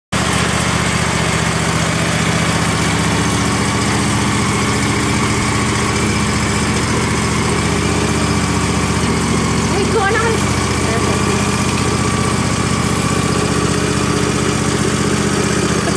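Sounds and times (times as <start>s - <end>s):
tractor engine running: 0.1s - 15.9s.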